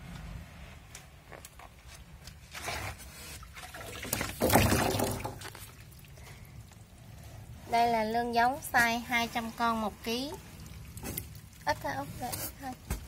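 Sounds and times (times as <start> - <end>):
water sloshing and splashing: 1.8 - 13.0.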